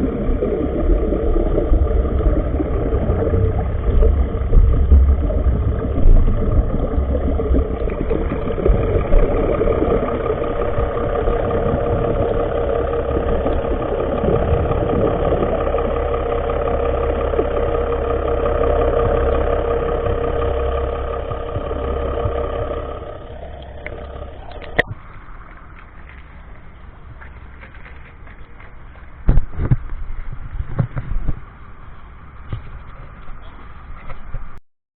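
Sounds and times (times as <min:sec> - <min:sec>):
boat engine running: 0:00.0 - 0:34.6.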